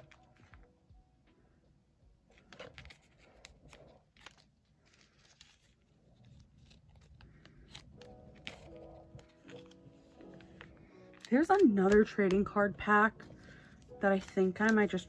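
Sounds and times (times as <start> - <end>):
plastic sleeves crinkling: 0.0 - 0.7, 2.3 - 15.0.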